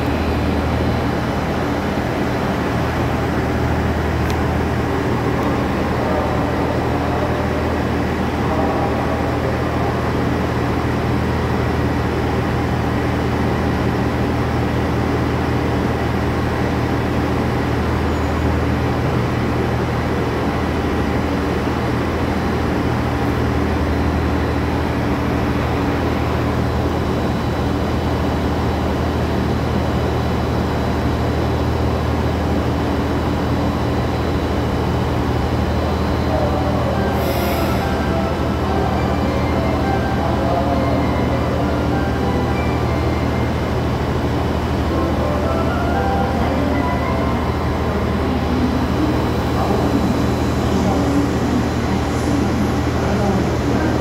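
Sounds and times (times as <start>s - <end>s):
railcar engine humming: 0.0s - 54.0s.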